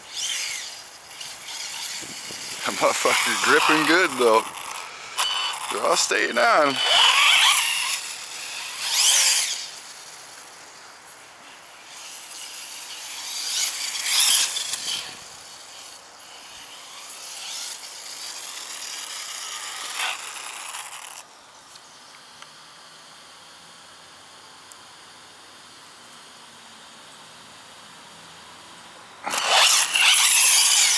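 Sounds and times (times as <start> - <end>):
rc car electric motor whining: 0.0 - 23.8, 26.1 - 30.9.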